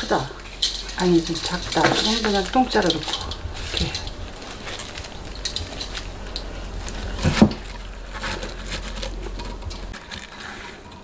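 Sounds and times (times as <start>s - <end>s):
coarse salt crunching and rustling: 0.0s - 11.0s.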